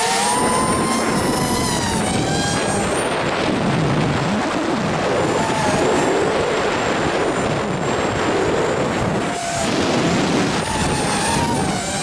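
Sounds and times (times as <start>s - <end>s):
electric motors and propellers whine: 0.0s - 12.0s
wind rush on microphone: 0.0s - 12.0s.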